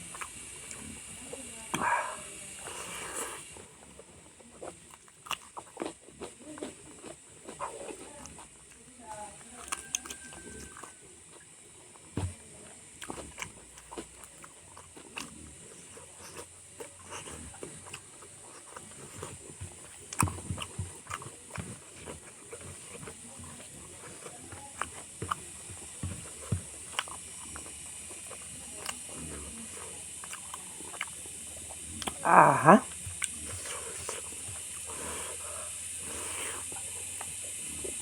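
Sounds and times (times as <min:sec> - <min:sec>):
chewing and lip smacks: 0:00.0 - 0:38.0.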